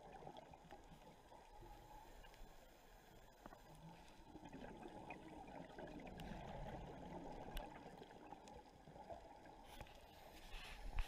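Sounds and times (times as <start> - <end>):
underwater breath bubbles gurgling: 0.0 - 11.0.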